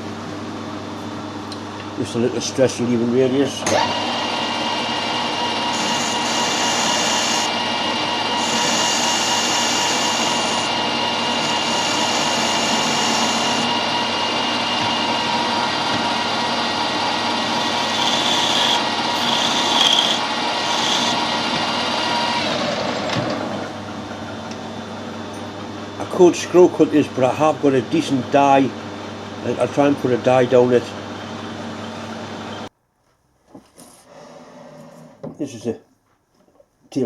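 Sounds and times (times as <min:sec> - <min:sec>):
lathe motor whine: 0:00.4 - 0:32.7.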